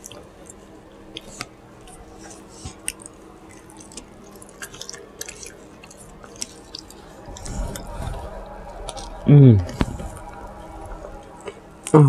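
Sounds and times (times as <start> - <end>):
person chewing with wet smacking: 0.0 - 11.9.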